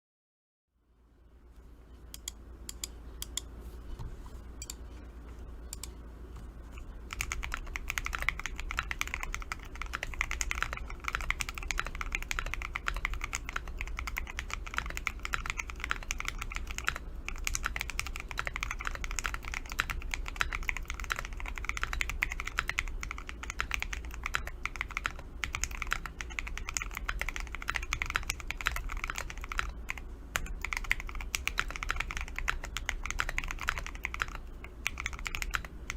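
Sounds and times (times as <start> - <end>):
keyboard typing: 5.6 - 6.0, 6.7 - 35.9.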